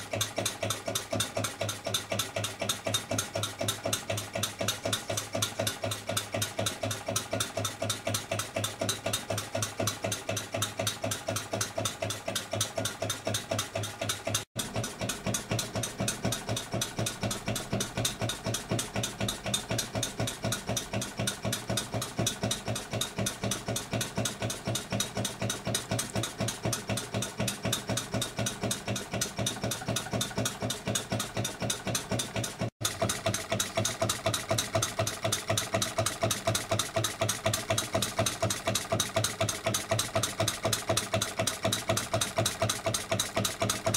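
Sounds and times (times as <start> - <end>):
model diesel engine running: 0.0 - 43.9.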